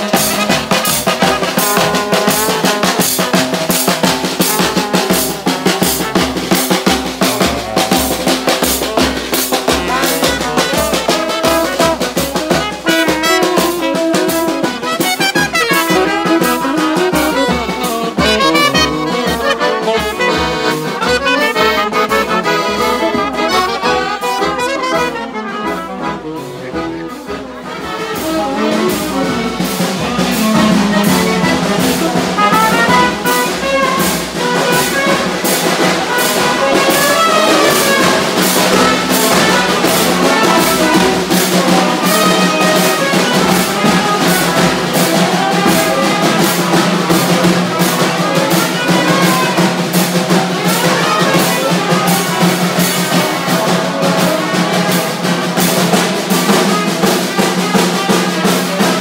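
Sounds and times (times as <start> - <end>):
button accordion: 0.0 - 58.7
fast even beat: 0.0 - 58.9
saxophone: 0.0 - 59.0
trumpet: 0.0 - 59.0.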